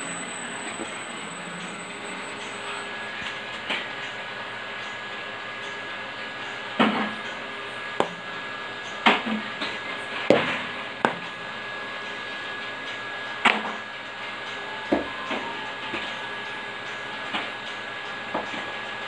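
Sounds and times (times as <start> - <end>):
mixer humming with whine: 0.0 - 19.0.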